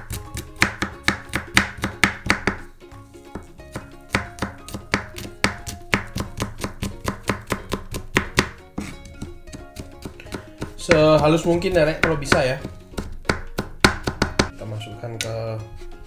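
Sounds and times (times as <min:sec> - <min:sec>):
knife chopping on cutting board: 0:00.0 - 0:02.7, 0:03.3 - 0:14.5
background music: 0:00.0 - 0:16.0.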